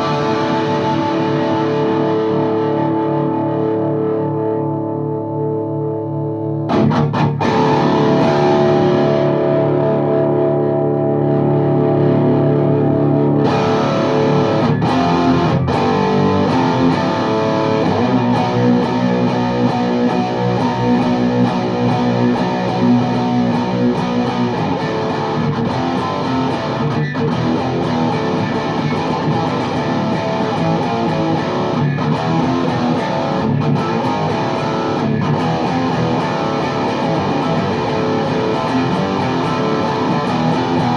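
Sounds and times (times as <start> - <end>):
distorted electric guitar chords: 0.0 - 40.9.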